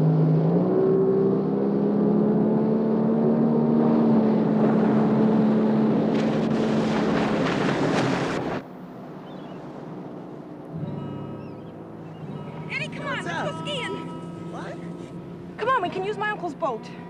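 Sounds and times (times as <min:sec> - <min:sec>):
motorboat engine running: 0:02.0 - 0:17.0.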